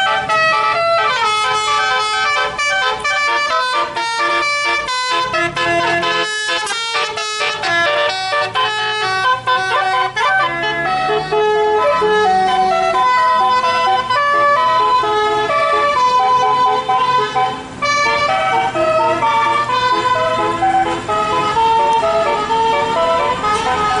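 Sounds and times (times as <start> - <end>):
bus engine hum: 0.0 - 24.0
bus horn playing a melody: 0.0 - 24.0.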